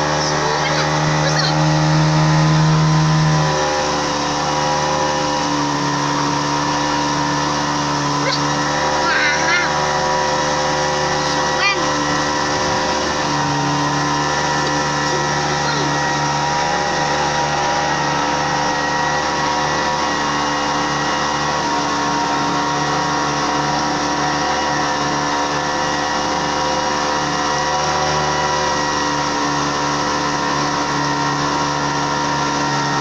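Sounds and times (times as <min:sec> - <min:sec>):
motorboat engine droning: 0:00.0 - 0:33.0.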